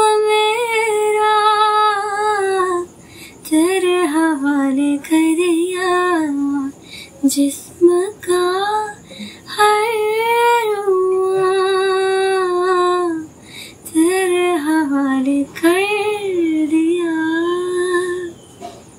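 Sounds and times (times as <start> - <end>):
woman singing unaccompanied: 0.0 - 18.5.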